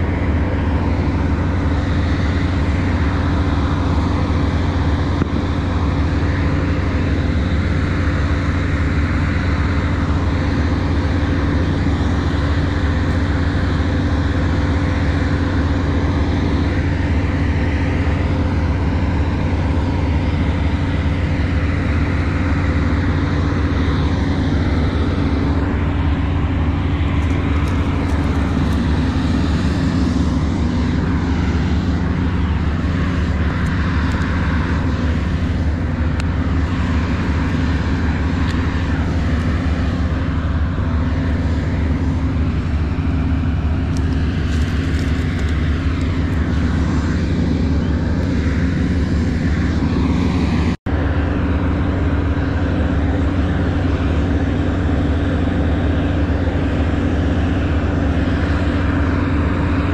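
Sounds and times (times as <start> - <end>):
loud low engine drone: 0.0 - 59.9.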